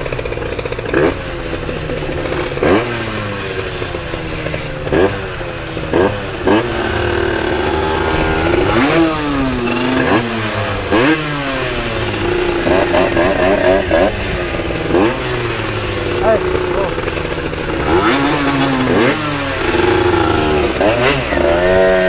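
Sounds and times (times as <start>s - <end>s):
moped engines idling: 0.0s - 22.0s
moped throttle blips: 0.0s - 22.0s.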